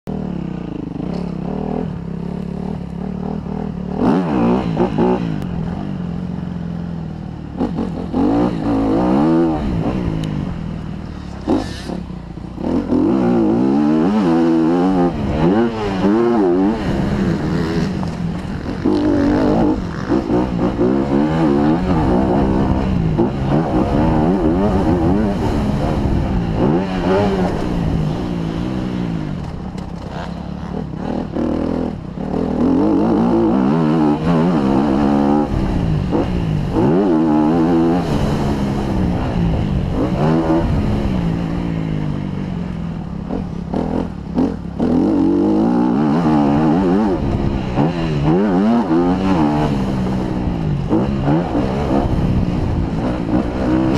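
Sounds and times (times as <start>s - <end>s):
motocross bike engine revving: 0.1s - 53.9s.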